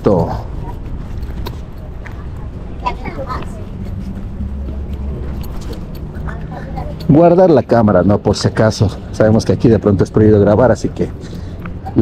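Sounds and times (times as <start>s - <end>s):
street traffic rumble: 0.0s - 12.0s
vehicle passing by: 0.3s - 12.0s.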